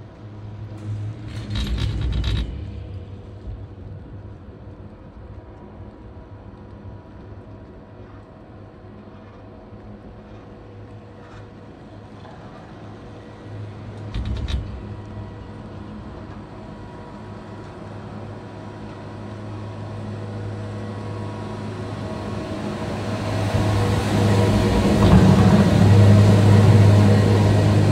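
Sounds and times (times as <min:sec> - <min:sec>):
chairlift mechanical hum: 0:00.0 - 0:27.9
terminal machinery rumble: 0:00.0 - 0:27.9.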